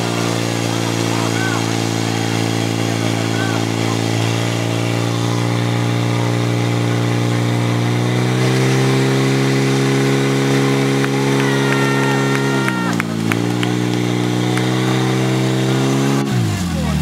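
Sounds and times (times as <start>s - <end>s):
pump engine running: 0.0s - 17.0s.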